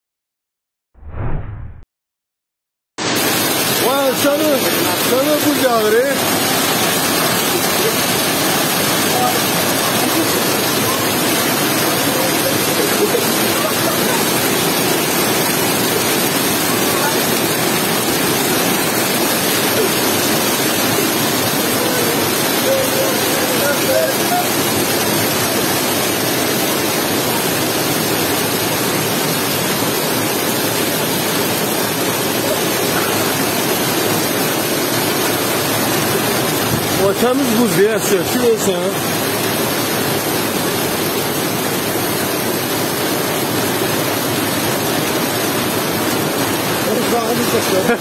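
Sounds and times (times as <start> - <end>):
heavy rain pouring: 3.0 - 48.0.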